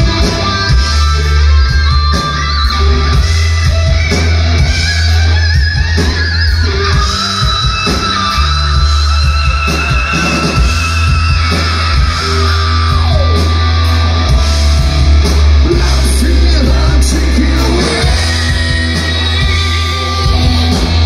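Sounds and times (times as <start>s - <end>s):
heavy steady bass: 0.0s - 21.0s.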